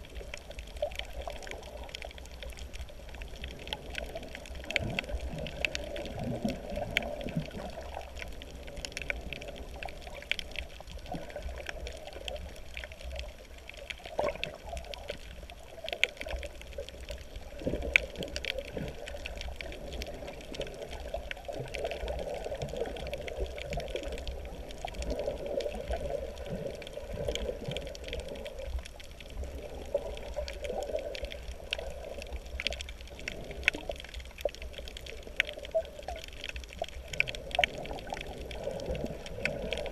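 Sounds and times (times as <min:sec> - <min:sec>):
small clicks and crackles: 0:00.0 - 0:39.9
underwater water bubbling: 0:00.0 - 0:39.9.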